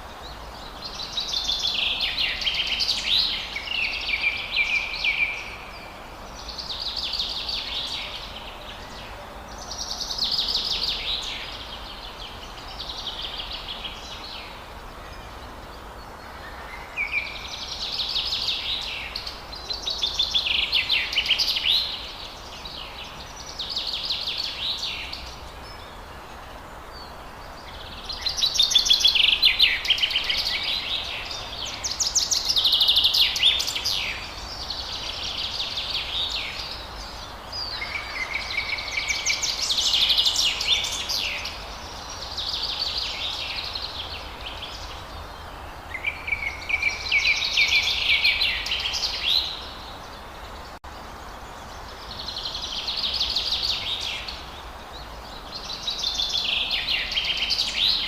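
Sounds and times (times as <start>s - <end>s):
faint background hiss: 0.0s - 58.0s
songbird singing: 0.0s - 58.0s.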